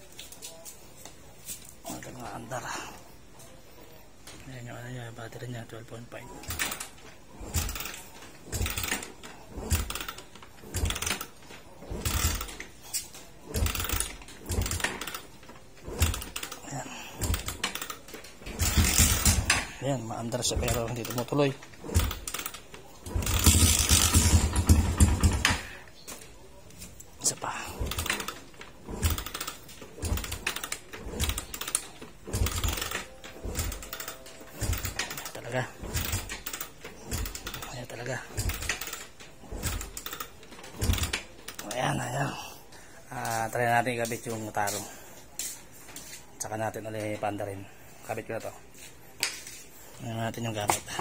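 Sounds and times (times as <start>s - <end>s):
motorcycle engine cranking: 4.2s - 48.4s, 49.2s - 51.0s.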